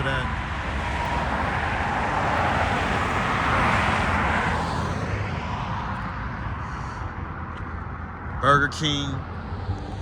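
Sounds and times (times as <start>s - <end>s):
road and tyre noise: 0.0s - 10.0s.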